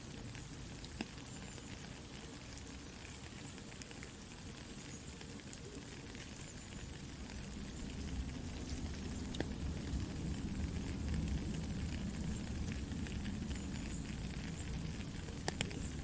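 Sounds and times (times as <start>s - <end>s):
soft steady rain: 0.0s - 16.0s
campfire crackling and popping: 0.2s - 16.0s
low fire rumble: 1.9s - 16.0s.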